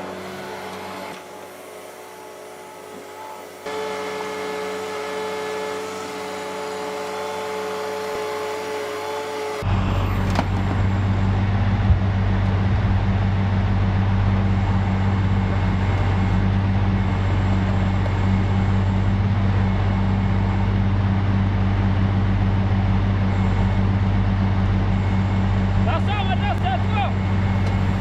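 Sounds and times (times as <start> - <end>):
heavy vehicle engine droning: 0.0 - 28.0.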